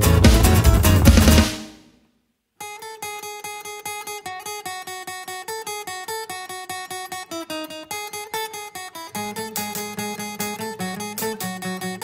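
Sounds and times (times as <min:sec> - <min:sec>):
acoustic guitar strumming: 0:00.0 - 0:01.9, 0:02.6 - 0:12.0.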